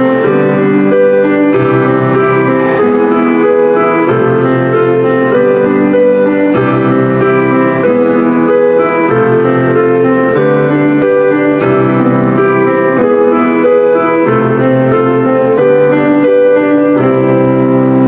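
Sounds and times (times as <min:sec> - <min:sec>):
electronic keyboard playing chords: 0:00.0 - 0:18.0.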